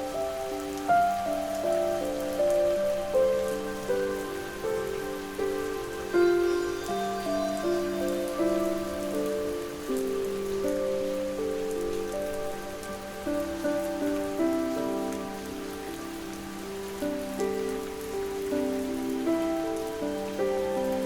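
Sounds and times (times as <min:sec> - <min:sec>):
gentle rain: 0:00.0 - 0:21.0
soft slow sleep music: 0:00.0 - 0:21.0.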